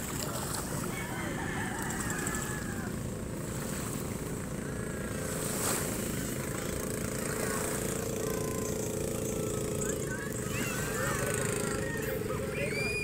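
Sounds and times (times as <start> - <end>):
boat engines droning: 0.0 - 13.0
steady hum: 0.0 - 13.0.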